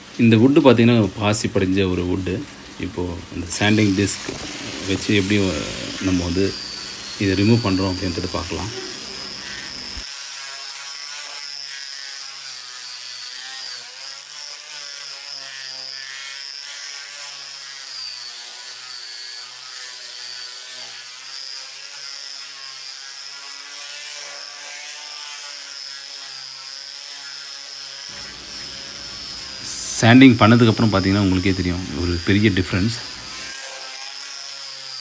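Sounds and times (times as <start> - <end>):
angle grinder sanding wood: 0.0 - 35.0.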